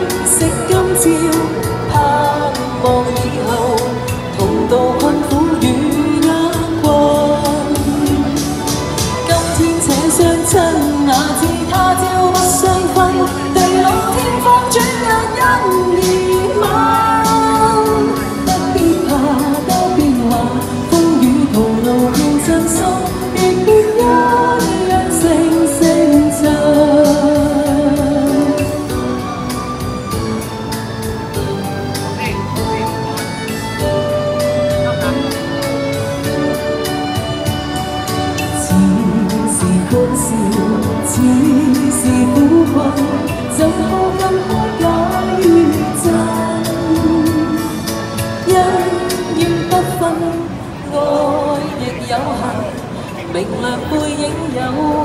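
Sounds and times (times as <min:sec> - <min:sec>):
woman singing pop song: 0:00.0 - 0:30.3, 0:36.1 - 0:55.0
backing track with steady beat: 0:00.0 - 0:55.0.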